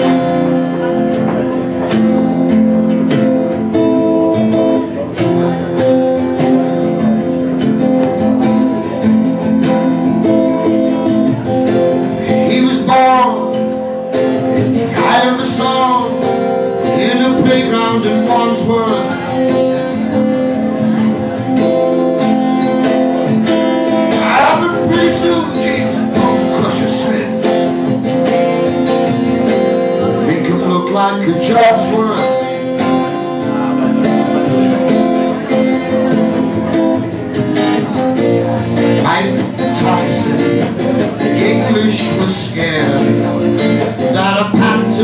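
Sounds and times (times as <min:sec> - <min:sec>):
man singing: 0:00.0 - 0:45.0
strummed acoustic guitar: 0:00.0 - 0:45.0.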